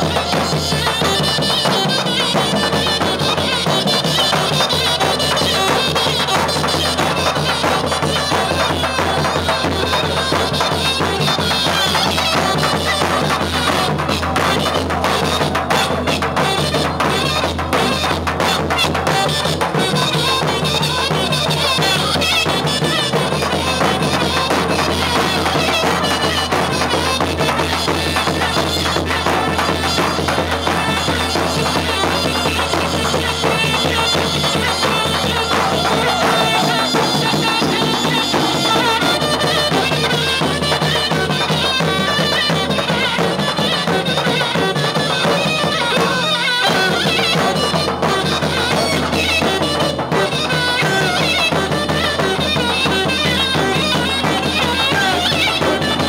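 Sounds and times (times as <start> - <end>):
shrill reed-pipe melody: 0.0 - 56.0.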